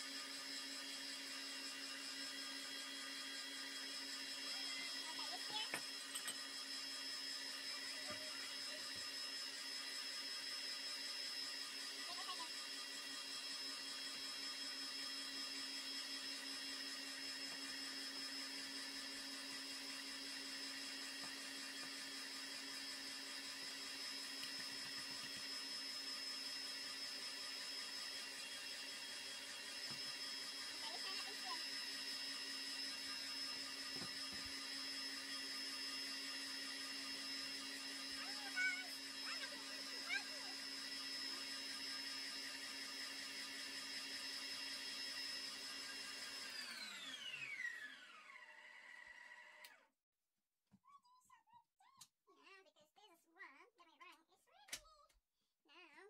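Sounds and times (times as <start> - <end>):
small motor whirring: 0.0 - 49.9.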